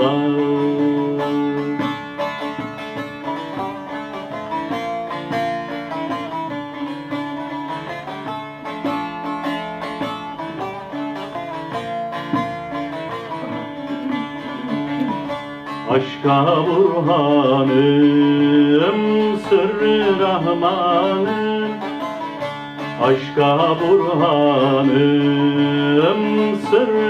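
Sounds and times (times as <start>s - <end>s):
plucked string melody: 0.0s - 27.0s.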